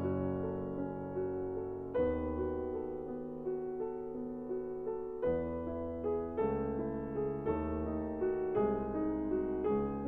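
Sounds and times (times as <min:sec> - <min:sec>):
soft piano chords: 0:00.0 - 0:10.0.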